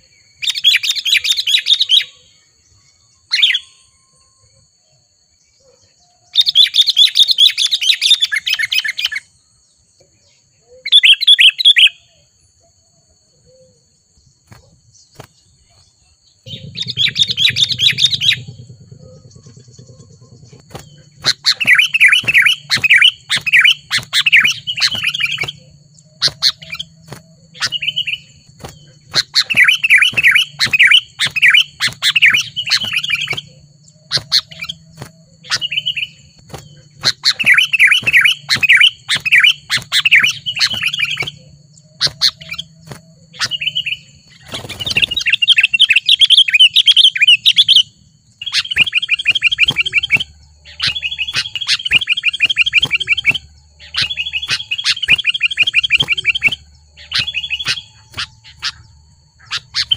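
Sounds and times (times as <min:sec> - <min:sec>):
bulbuls chirping: 0:00.0 - 0:04.0, 0:05.4 - 0:59.9.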